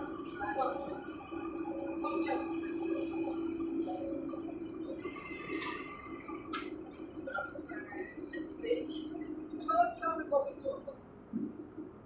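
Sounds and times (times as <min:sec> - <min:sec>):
train carriage hum: 0:00.0 - 0:12.0.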